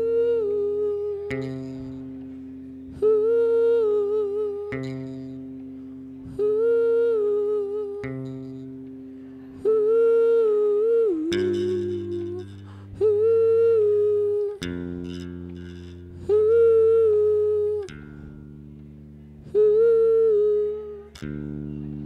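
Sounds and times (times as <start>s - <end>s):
wordless hummed vocal: 0.0s - 18.4s, 19.3s - 22.0s
guitar chords ringing: 0.0s - 22.0s.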